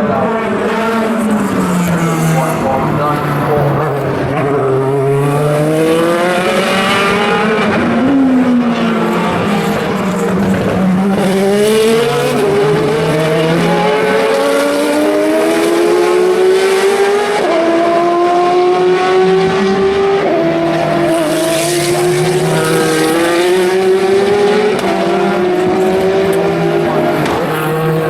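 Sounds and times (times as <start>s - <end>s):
racing car engine accelerating: 0.0s - 28.0s.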